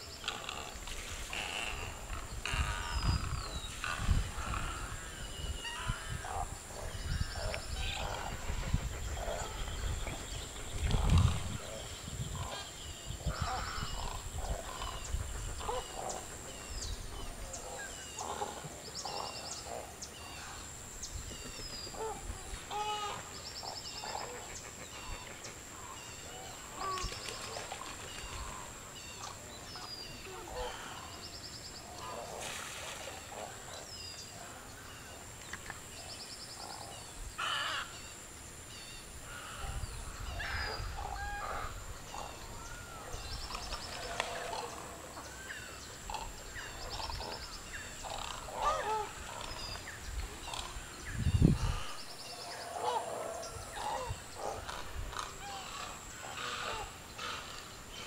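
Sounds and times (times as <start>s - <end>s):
wetland birds calling: 0.0s - 58.0s.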